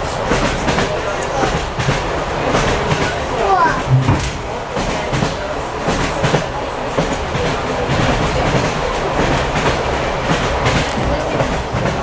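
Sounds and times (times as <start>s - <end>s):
train rumble: 0.0s - 12.0s
train wheels clacking over rail joints: 0.0s - 12.0s.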